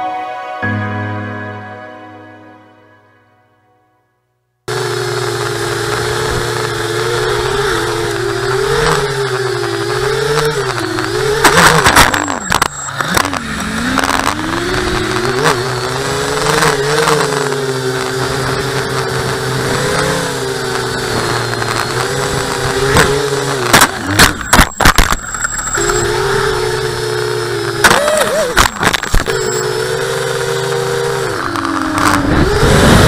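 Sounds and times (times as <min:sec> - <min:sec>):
quadcopter motors whining: 0:04.7 - 0:33.0.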